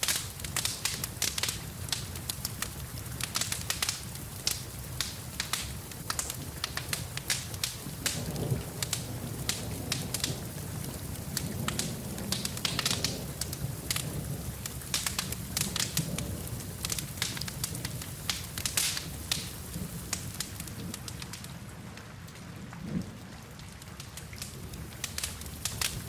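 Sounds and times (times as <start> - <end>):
rain falling: 0.0 - 26.0
wood fire crackling and popping: 0.0 - 26.0.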